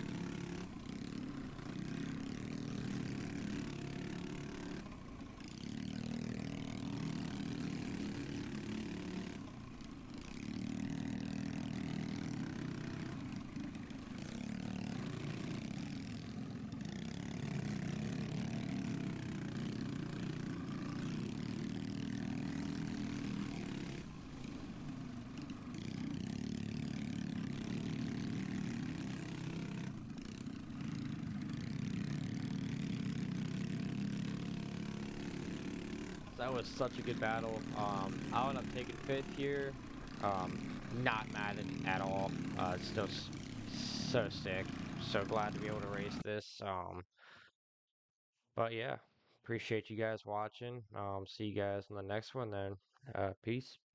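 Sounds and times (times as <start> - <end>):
small motorbike engine revving: 0.0 - 46.2.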